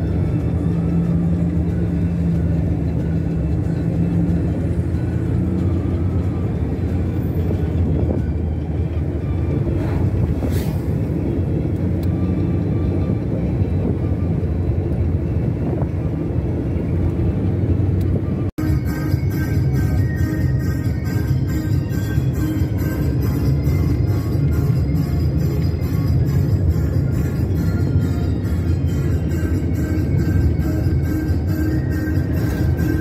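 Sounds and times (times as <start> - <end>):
car engine and tyre noise: 0.0 - 33.0.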